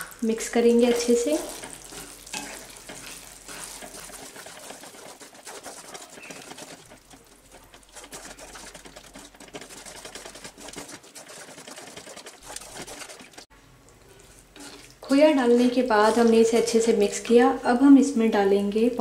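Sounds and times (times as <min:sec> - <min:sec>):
wooden spatula scraping a pan: 0:00.7 - 0:13.5, 0:14.2 - 0:16.9
thick mixture bubbling: 0:00.9 - 0:16.5.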